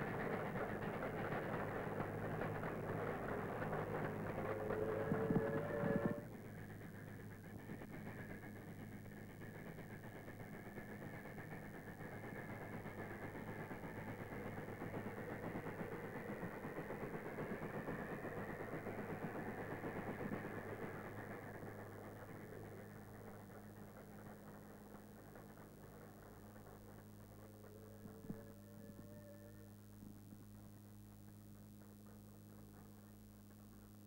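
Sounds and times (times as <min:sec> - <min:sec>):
steam train running: 0:00.0 - 0:33.1.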